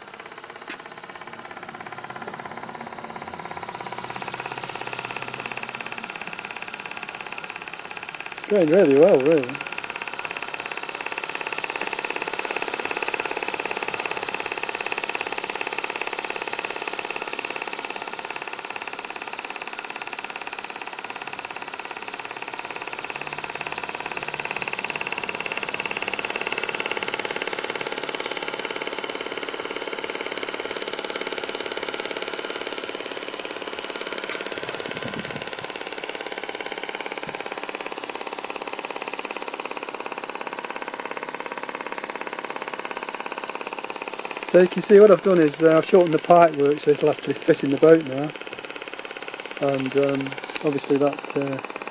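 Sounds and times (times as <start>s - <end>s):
boiler and burner hissing: 0.0s - 51.9s
small steam engine running: 0.0s - 51.9s.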